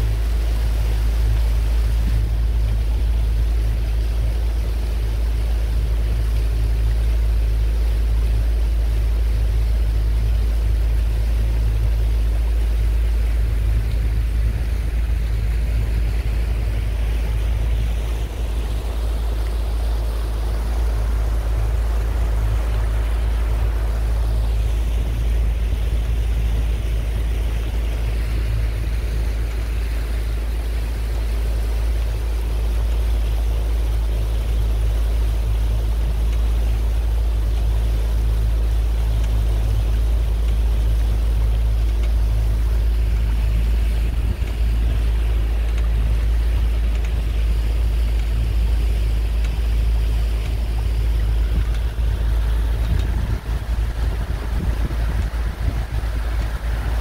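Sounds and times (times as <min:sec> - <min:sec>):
motorboat motor rumbling: 0:00.0 - 0:57.0
rushing water hissing: 0:00.0 - 0:57.0
wind: 0:00.0 - 0:57.0.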